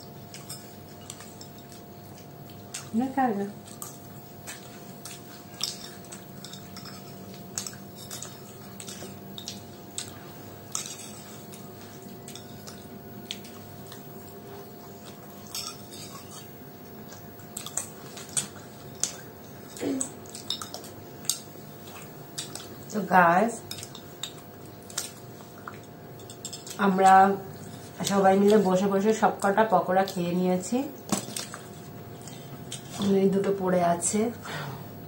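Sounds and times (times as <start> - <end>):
chewing: 0.2 - 23.0, 23.6 - 30.3, 31.0 - 33.2.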